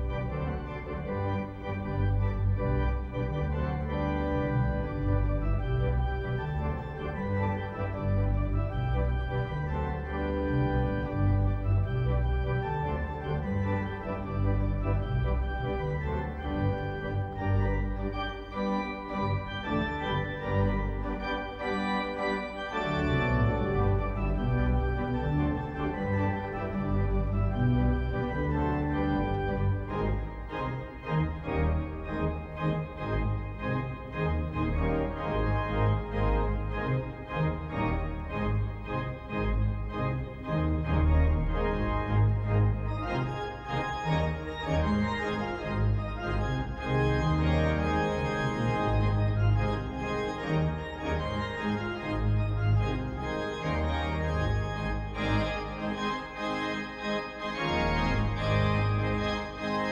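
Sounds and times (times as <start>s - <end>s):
pipe organ playing chords: 0.0s - 59.9s.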